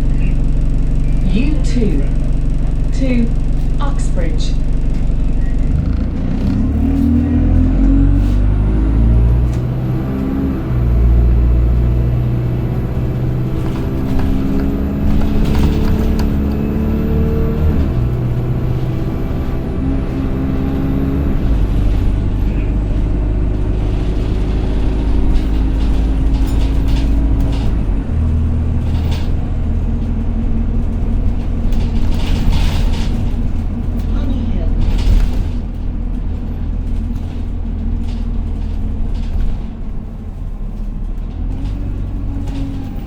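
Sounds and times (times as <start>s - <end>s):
bus body rattles and knocks: 0.0s - 43.0s
bus diesel engine droning: 0.0s - 43.0s.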